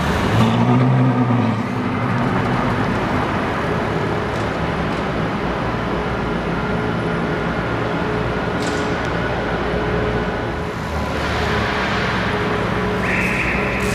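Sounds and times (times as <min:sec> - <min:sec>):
car engine: 0:00.0 - 0:13.9
road traffic rumble: 0:00.0 - 0:13.9.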